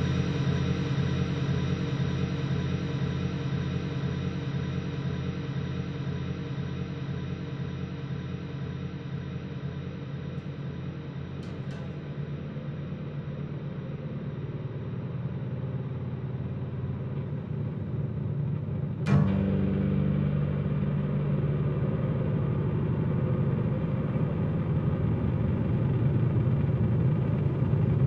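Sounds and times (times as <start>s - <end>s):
ambient drone music: 0.0s - 28.0s.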